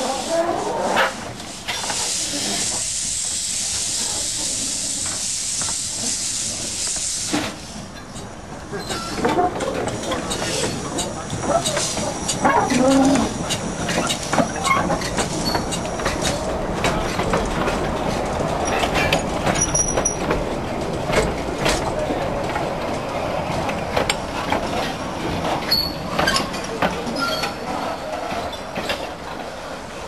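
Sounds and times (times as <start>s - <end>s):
train coaches rolling past: 0.0s - 30.0s
wheels clicking over rail joints: 5.0s - 29.5s.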